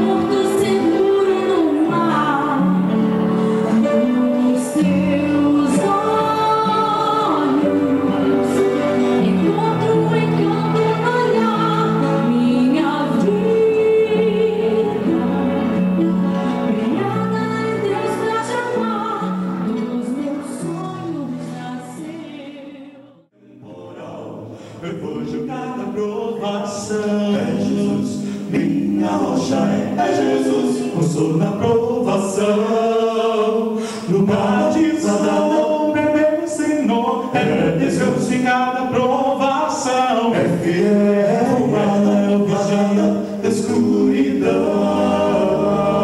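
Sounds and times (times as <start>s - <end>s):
male quartet singing in harmony: 0.0s - 46.0s.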